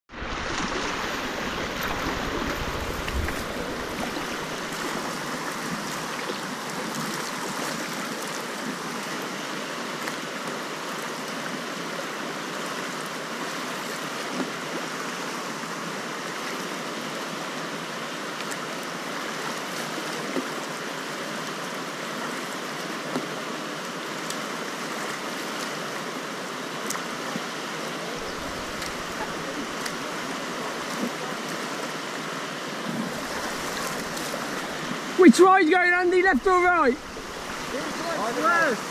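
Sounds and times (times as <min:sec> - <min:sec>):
whitewater rushing over rocks: 0:00.1 - 0:38.9.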